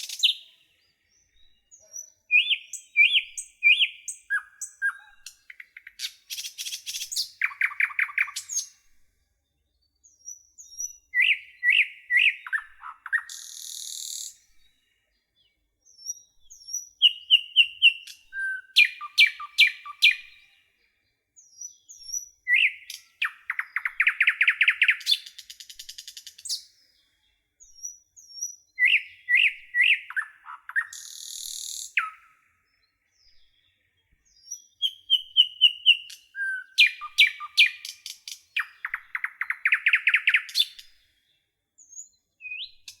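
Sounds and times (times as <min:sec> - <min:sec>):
nightingale singing: 0:00.0 - 0:09.0, 0:09.7 - 0:43.0.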